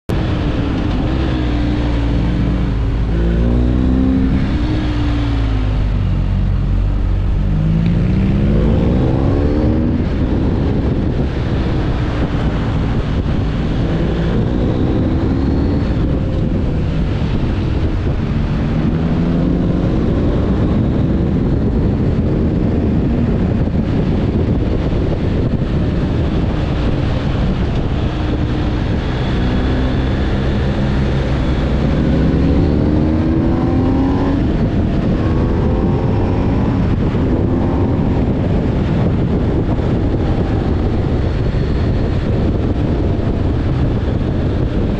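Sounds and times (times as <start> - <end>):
motorcycle engine shifting gears: 0.1 - 44.9
steady rushing noise: 0.1 - 44.9.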